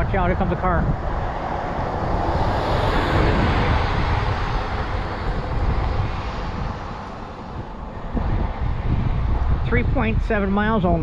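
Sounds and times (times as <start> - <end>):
car passing: 0.0 - 10.6.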